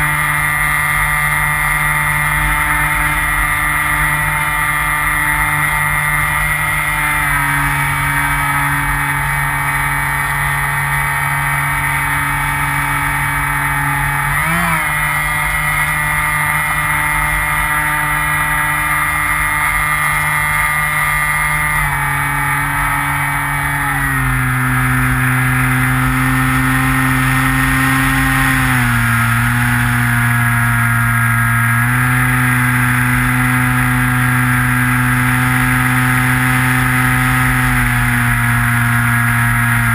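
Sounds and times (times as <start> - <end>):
model plane electric motor and propeller: 0.0 - 39.9.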